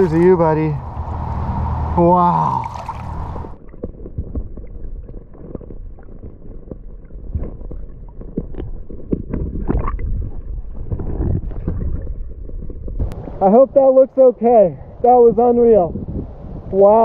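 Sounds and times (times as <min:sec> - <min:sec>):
underwater stream rush: 0:00.0 - 0:16.9.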